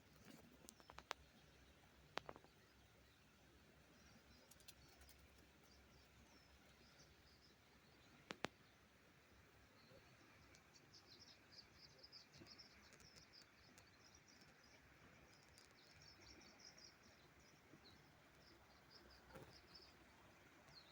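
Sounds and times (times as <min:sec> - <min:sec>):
low background hiss: 0:00.0 - 0:20.9
songbird chirps: 0:00.0 - 0:20.9.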